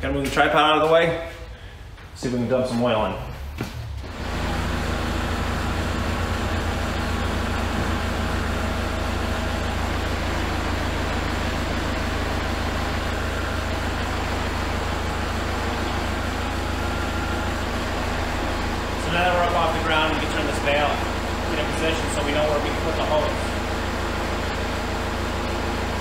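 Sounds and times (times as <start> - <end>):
tractor diesel engine running: 2.8 - 26.0.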